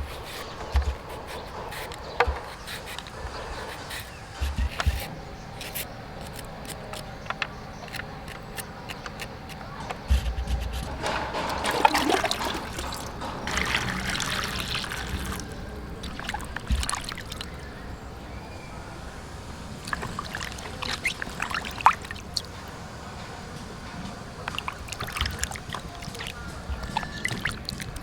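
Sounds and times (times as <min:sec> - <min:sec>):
light clicks and knocks: 0:00.0 - 0:28.0
water trickling and sloshing: 0:00.0 - 0:28.0.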